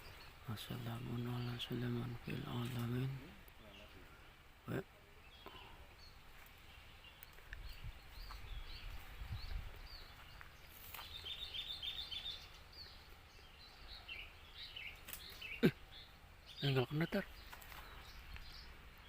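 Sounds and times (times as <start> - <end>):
wild birds chirping: 0.0 - 19.0.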